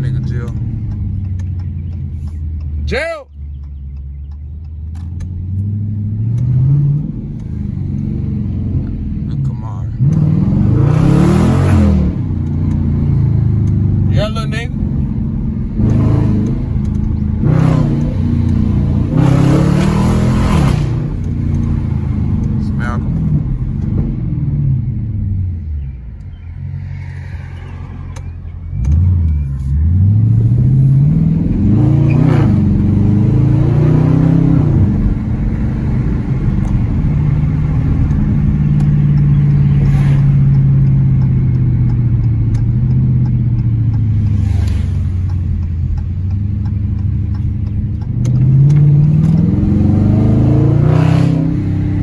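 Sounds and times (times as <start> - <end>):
car engine accelerating with gear shifts: 0.0 - 52.0.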